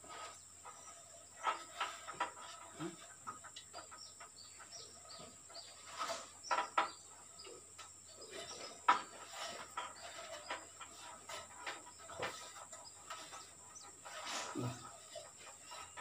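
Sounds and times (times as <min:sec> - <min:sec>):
metal ladder knocking and creaking: 0:00.0 - 0:16.0.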